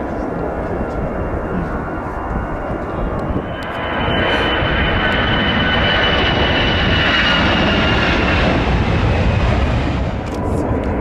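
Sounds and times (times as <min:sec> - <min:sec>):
jet engines rushing and whining: 0:00.0 - 0:11.0.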